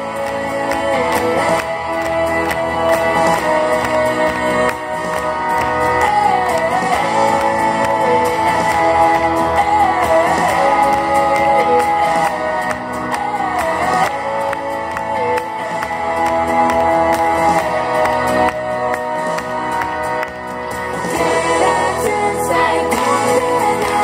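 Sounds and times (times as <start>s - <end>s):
folk dance music: 0.0s - 24.0s.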